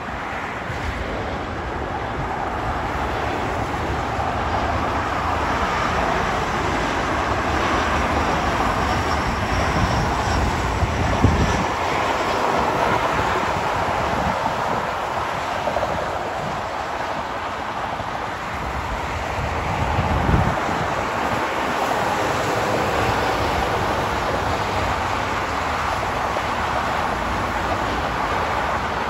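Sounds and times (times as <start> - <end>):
jet engines rush and rumble: 0.0 - 29.0.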